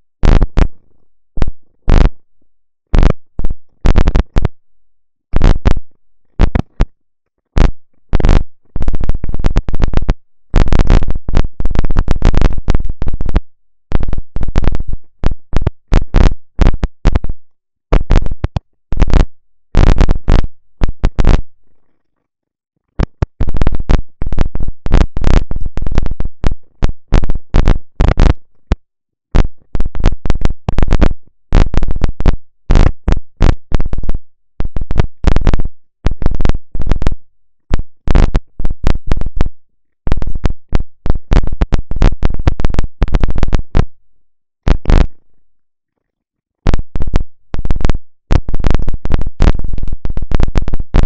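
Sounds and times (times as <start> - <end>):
microphone static crackling: 0.0 - 2.3, 2.9 - 4.6, 5.3 - 21.9, 22.9 - 45.4, 46.6 - 51.0.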